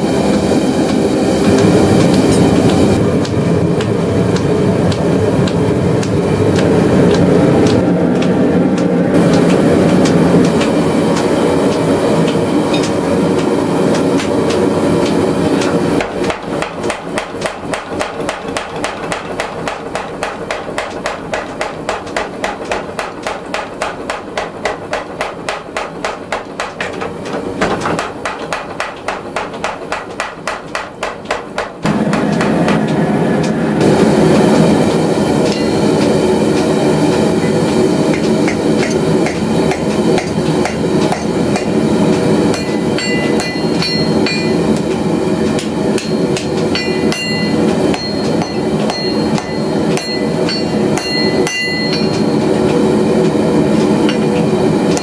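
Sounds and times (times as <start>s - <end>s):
shop machinery noise: 0.0s - 55.0s
power hammer striking steel: 0.8s - 55.0s.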